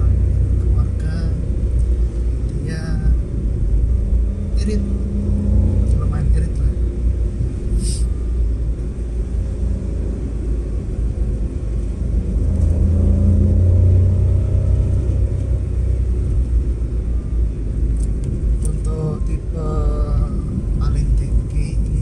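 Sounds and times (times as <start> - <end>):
car cabin engine and road rumble: 0.0 - 22.0.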